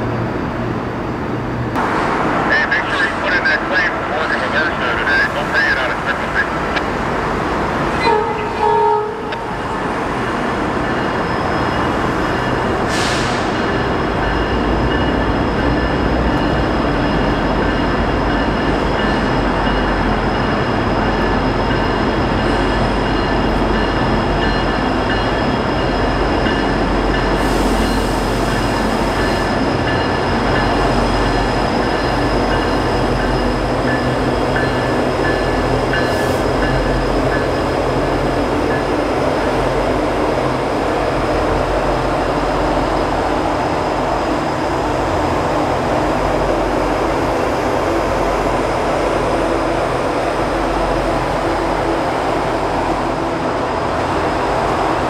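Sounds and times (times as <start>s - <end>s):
locomotive engines and wheels rumbling: 0.0s - 55.0s.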